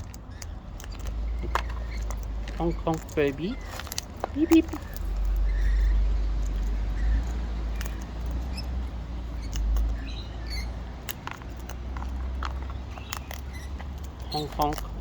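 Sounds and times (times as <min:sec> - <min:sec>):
cockatoo beak clicks: 0:00.0 - 0:15.0
cockatoo soft squeaks: 0:00.2 - 0:10.9, 0:12.6 - 0:15.0.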